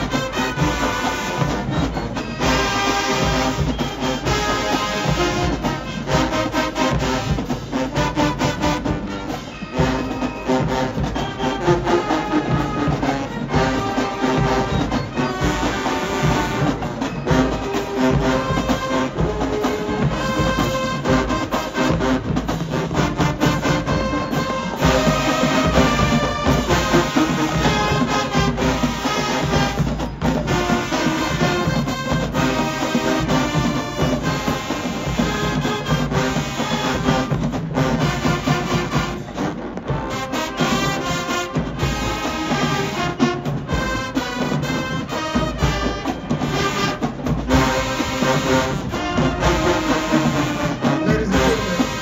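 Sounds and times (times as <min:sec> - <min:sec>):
brass section playing: 0:00.0 - 0:52.0
drumline: 0:00.0 - 0:52.0.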